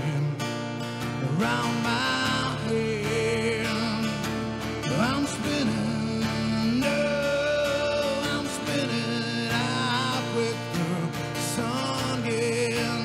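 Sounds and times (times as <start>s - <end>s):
acoustic guitar: 0.0s - 13.0s
man singing: 0.0s - 13.0s.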